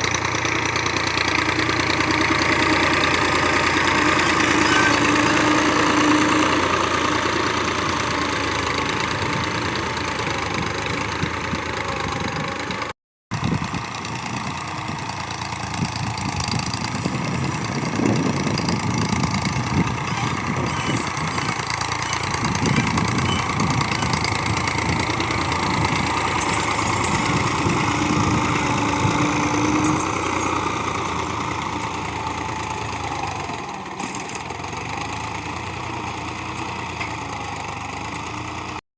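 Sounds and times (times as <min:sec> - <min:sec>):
tractor diesel engine running: 0:00.0 - 0:38.8.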